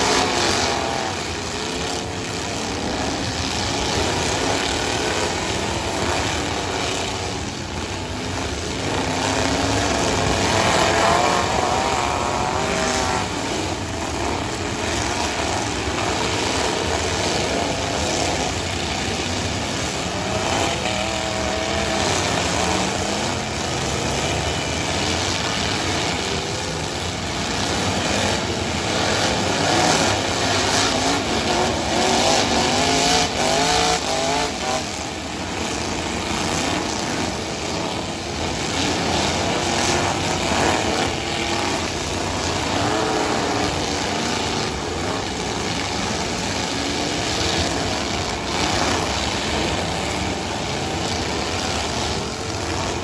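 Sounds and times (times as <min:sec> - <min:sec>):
truck engines revving: 0:00.0 - 0:53.0.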